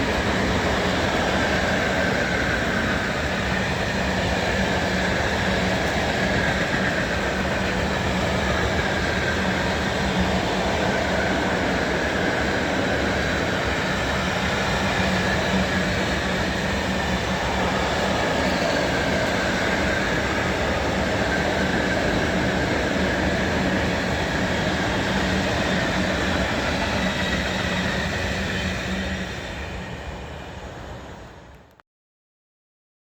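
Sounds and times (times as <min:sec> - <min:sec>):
train wheels rolling on rail: 0:00.0 - 0:31.8.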